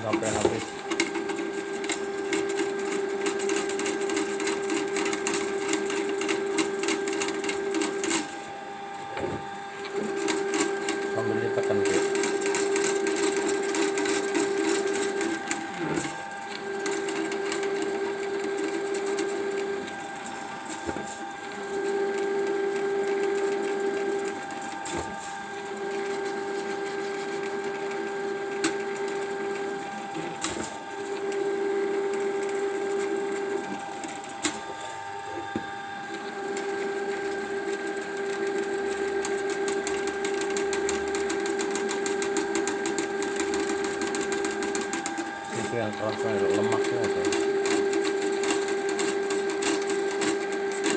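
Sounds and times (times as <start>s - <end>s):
drain cleaning machine humming: 0.0s - 50.9s.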